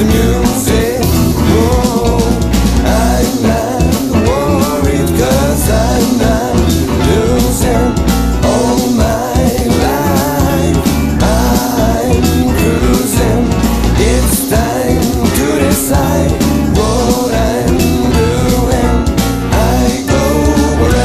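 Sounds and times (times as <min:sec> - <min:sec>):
jazz-funk band music: 0:00.0 - 0:21.0.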